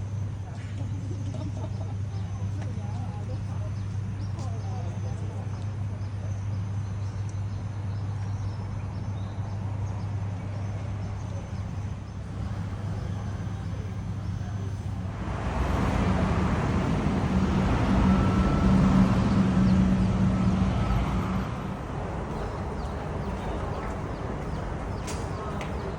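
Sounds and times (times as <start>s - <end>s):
vehicle engine humming: 0.0s - 25.9s.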